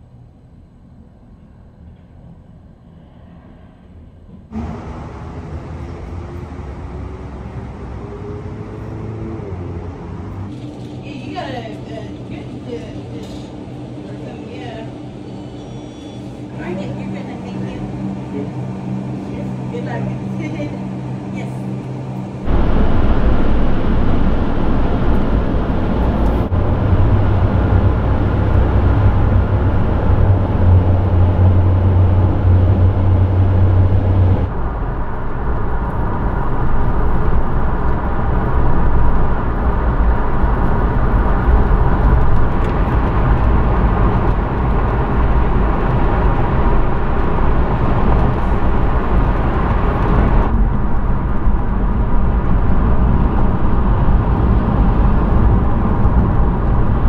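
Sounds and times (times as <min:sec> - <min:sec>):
low engine drone: 0:00.0 - 0:57.0
road and tyre noise: 0:00.0 - 0:57.0.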